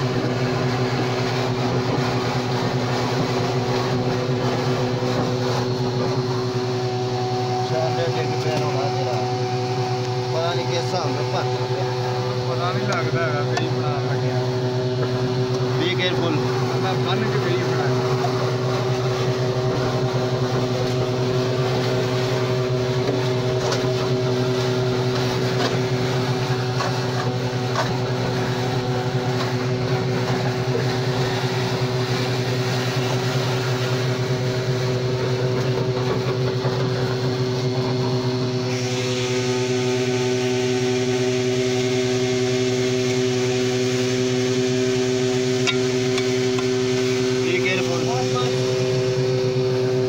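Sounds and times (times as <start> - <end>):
engine running steadily: 0.0 - 50.0.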